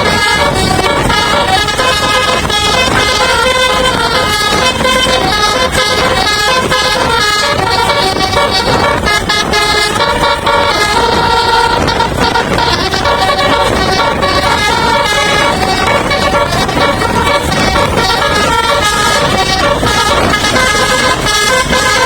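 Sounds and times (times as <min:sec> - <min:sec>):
dense rumble: 0:00.0 - 0:22.0
musical bus air horn: 0:00.0 - 0:22.0.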